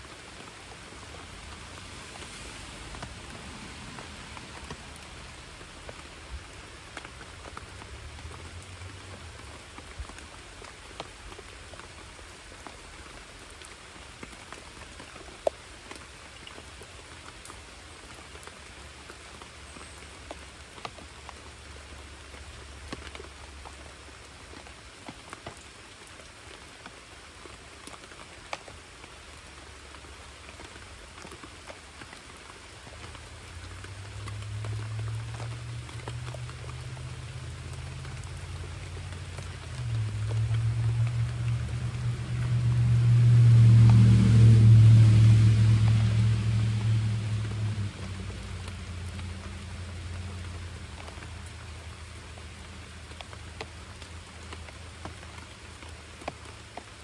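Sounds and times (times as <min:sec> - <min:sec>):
close raindrop taps: 0:00.0 - 0:57.0
rain falling on creek: 0:00.0 - 0:57.0.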